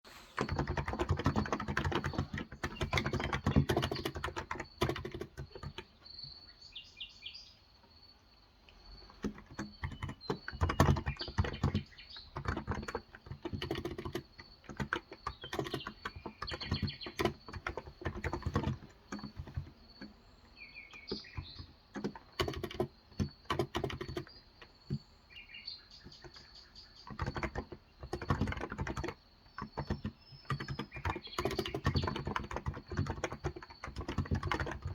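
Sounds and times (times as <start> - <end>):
keyboard typing: 0.1 - 6.1, 9.0 - 25.1, 26.0 - 34.9
birds chirping: 0.1 - 34.9.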